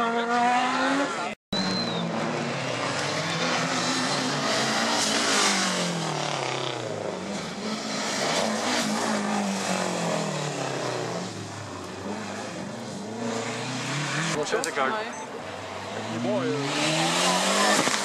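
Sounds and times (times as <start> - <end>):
rally car engine revving: 0.0 - 14.7, 15.4 - 18.0.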